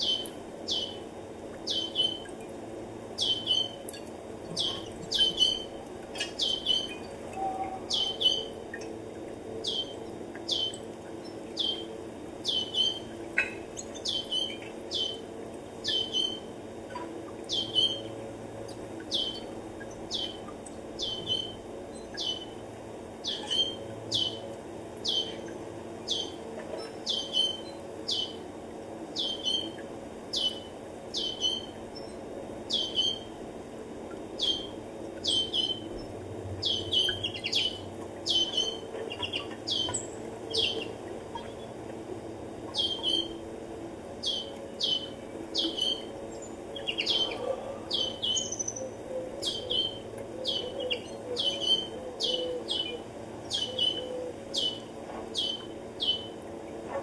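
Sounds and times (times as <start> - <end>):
songbird chirping: 0.0 - 1.0, 1.6 - 2.4, 3.2 - 8.9, 9.6 - 15.2, 15.8 - 16.5, 17.5 - 22.6, 23.2 - 28.4, 30.4 - 33.3, 34.4 - 41.7, 42.7 - 43.4, 44.2 - 56.4.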